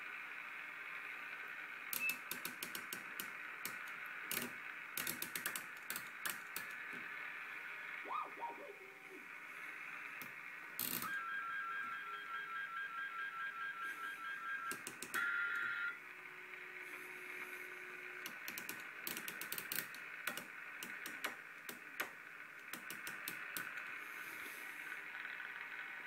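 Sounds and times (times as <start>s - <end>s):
radio receiver hiss: 0.0s - 11.2s, 15.9s - 26.0s.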